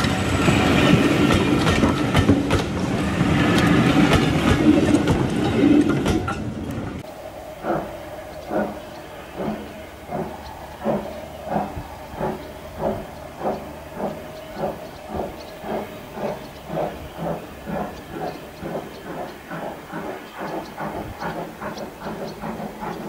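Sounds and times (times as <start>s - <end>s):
steam locomotive exhaust beats: 0.0s - 23.0s.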